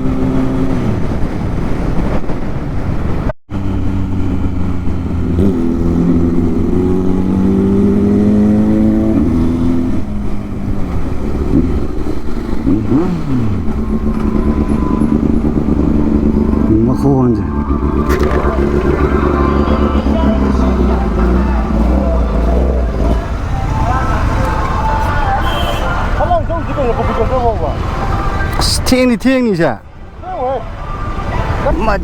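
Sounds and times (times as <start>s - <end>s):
motorcycle engine revving: 0.0s - 1.6s, 3.5s - 28.6s.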